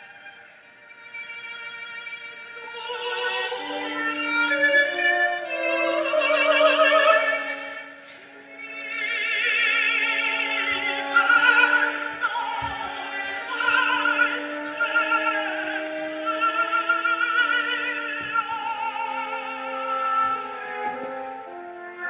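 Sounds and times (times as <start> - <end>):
operatic singing with vibrato: 0.0 - 22.0.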